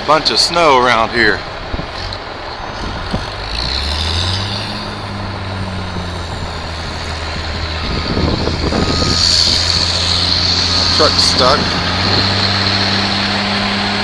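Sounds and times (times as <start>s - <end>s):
heavy vehicle engine droning: 0.0s - 14.0s
traffic noise: 0.0s - 14.0s.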